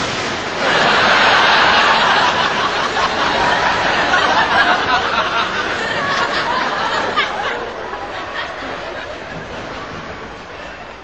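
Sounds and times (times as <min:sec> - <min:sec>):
crowd laughing: 0:00.0 - 0:11.0.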